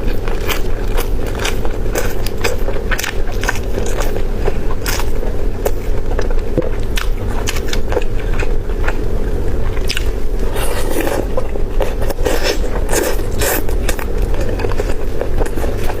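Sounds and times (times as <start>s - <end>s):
chewing crunches: 0.0s - 16.0s
steady low hum: 0.0s - 16.0s.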